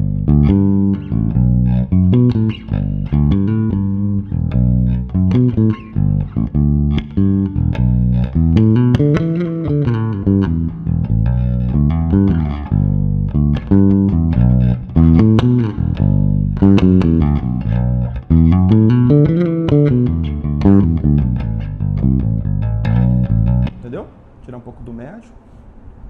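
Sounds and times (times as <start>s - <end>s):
electric bass plucked notes: 0.0s - 24.3s.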